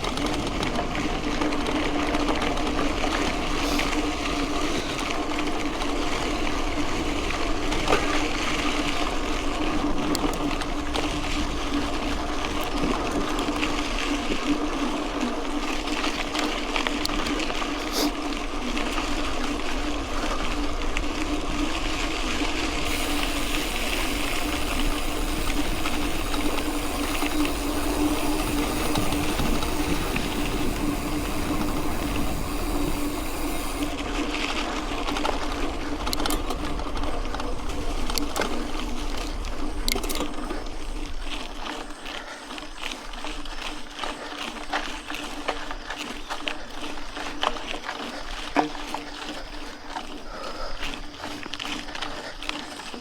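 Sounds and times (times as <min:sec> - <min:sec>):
bike clicks and rattles: 0:00.0 - 0:53.0
bike tyres on dirt road: 0:00.0 - 0:53.0.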